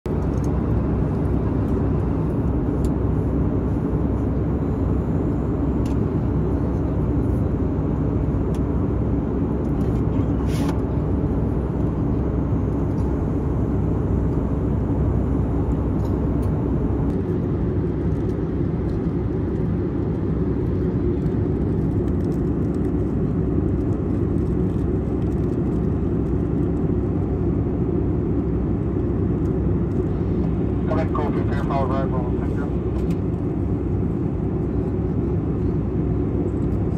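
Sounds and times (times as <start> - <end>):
jet engine and airflow rumble: 0.0 - 36.9.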